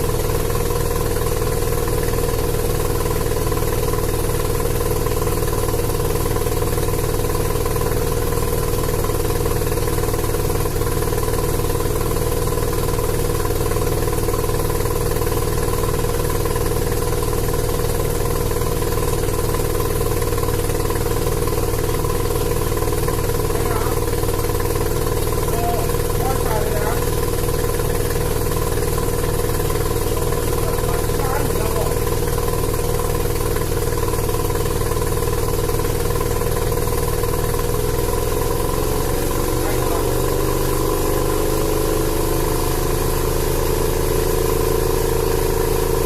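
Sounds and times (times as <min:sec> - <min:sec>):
rotary engine idling: 0:00.0 - 0:46.0.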